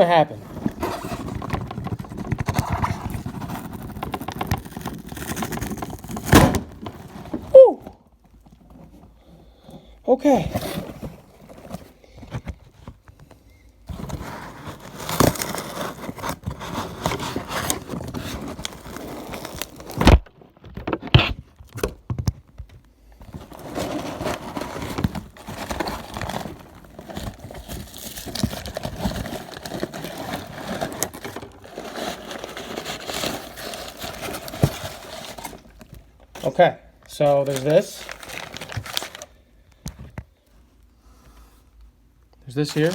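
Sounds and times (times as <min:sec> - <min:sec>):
packaging rustling and crinkling: 0:00.0 - 0:09.7, 0:10.4 - 0:40.6, 0:42.5 - 0:42.9.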